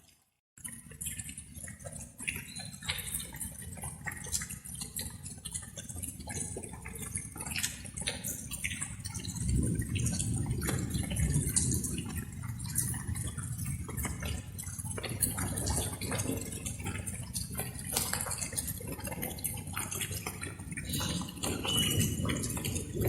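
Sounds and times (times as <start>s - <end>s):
rain drops splashing: 0.6s - 23.0s.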